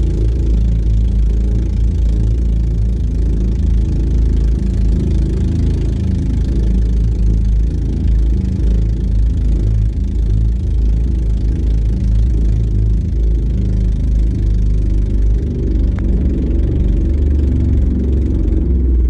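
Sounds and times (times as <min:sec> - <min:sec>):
boat engine running at high speed: 0:00.0 - 0:19.0.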